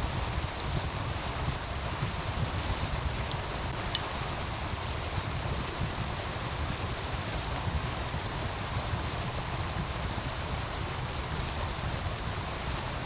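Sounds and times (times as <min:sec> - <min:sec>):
faint wood fire crackles: 0:00.0 - 0:13.0.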